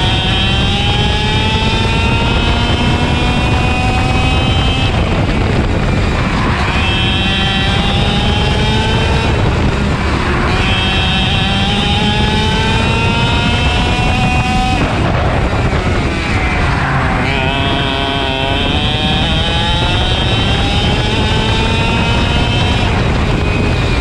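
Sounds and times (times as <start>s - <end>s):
kart engine revving: 0.0s - 24.0s.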